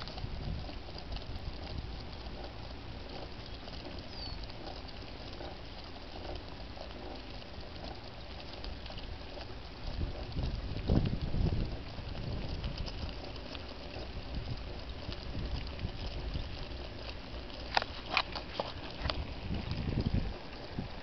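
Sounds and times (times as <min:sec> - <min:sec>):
wind rumble on microphone: 0:00.0 - 0:06.4, 0:07.0 - 0:21.0
dog paws pattering on asphalt: 0:00.0 - 0:21.0.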